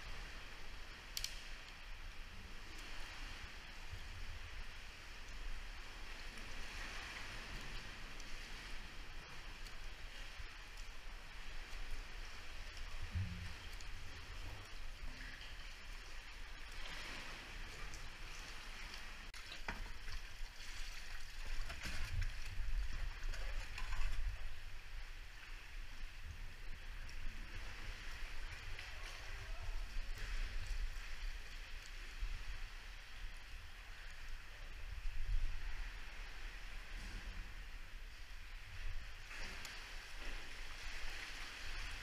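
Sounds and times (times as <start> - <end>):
paddle splashes: 0.0 - 34.2, 34.8 - 42.0
water sloshing and gurgling: 0.0 - 42.0.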